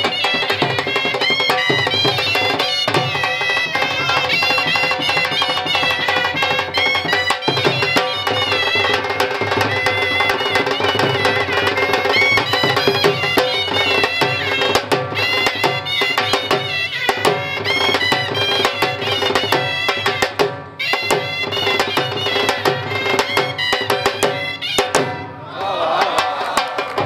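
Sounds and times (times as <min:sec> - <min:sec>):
dhol drum beats: 0:00.0 - 0:27.0.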